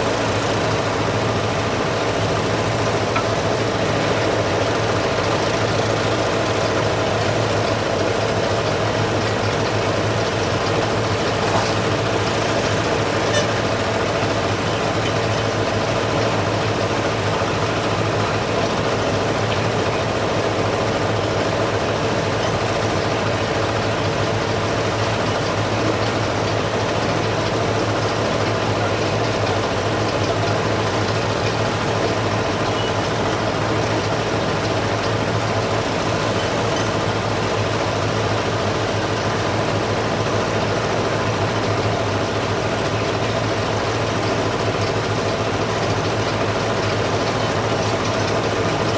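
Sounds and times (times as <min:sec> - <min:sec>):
heavy engine idling: 0:00.0 - 0:48.9.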